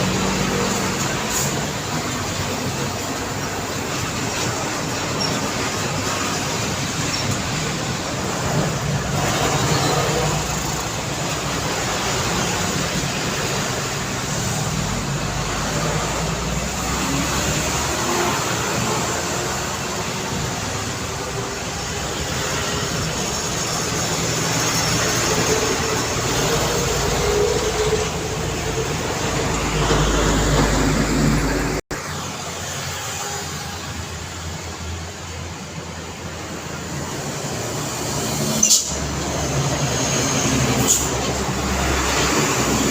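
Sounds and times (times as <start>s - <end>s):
heavy trucks: 0.0s - 42.9s
vehicles passing: 0.0s - 42.9s.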